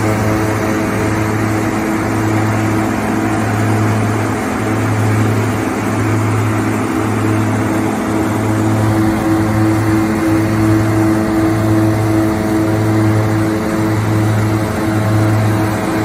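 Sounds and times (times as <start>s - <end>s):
harvester engine droning: 0.0s - 16.0s.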